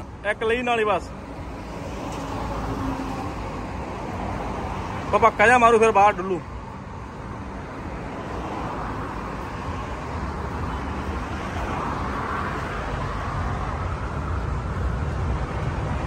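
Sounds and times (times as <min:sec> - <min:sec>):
road traffic: 0:00.0 - 0:16.0
vehicle engines rumbling: 0:00.0 - 0:16.0.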